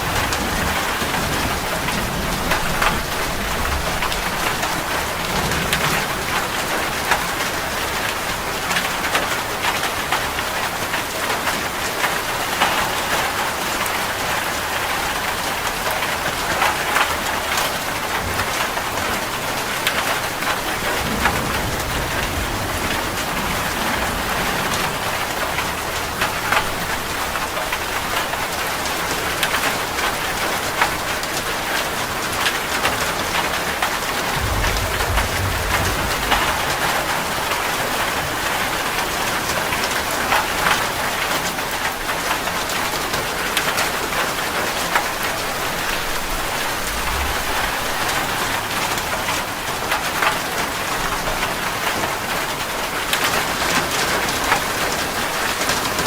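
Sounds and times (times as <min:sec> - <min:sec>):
low thunder rumbles: 0:00.0 - 0:42.2, 0:44.1 - 0:52.8
heavy rain on metal roof: 0:00.0 - 0:56.0.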